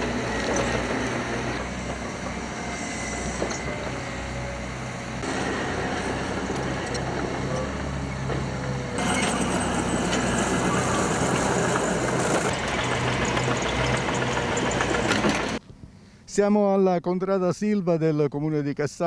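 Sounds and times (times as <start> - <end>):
diesel engine hum: 0.0 - 15.6.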